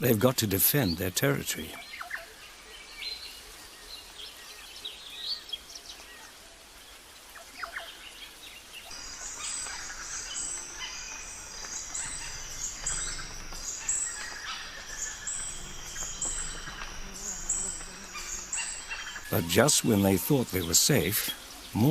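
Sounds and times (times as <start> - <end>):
wild birds chirping: 0.0 - 21.9.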